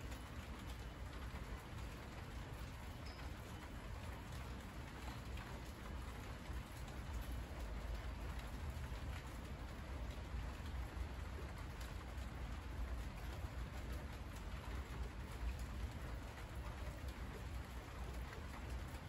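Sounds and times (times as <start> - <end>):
rain on leaves: 0.0 - 19.0.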